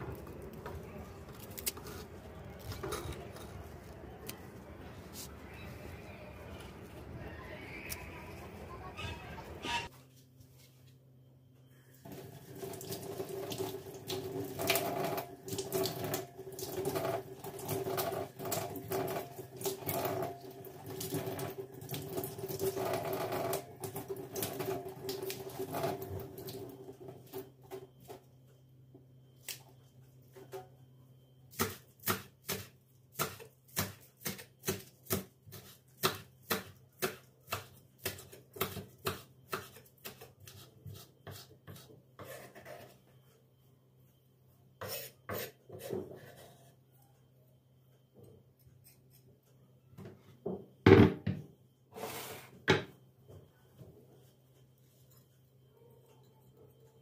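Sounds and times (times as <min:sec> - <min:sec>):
steady kitchen hum: 0:00.0 - 0:57.0.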